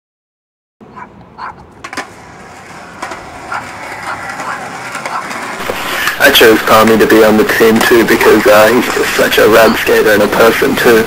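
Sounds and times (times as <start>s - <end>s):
skateboard wheels rolling on concrete: 1.2s - 11.0s.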